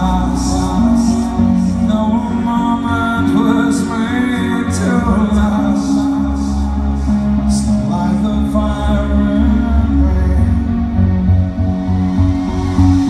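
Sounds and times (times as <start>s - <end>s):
man singing into a microphone: 0.0s - 11.6s
deep steady bass: 0.0s - 13.0s
synthesizer chords: 0.0s - 13.0s.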